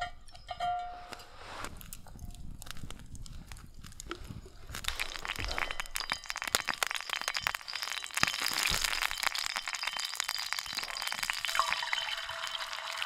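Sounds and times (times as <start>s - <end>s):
campfire crackling and popping: 1.1s - 13.0s.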